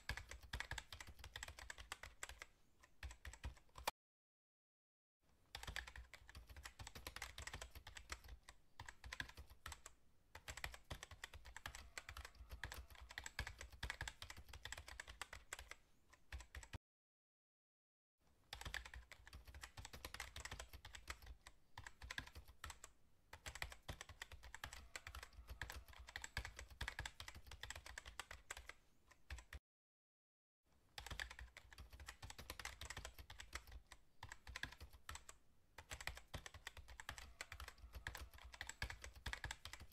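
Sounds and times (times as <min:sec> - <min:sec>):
rapid keyboard typing clicks: 0:00.0 - 0:03.9, 0:05.5 - 0:16.8, 0:18.5 - 0:29.6, 0:31.0 - 0:39.9.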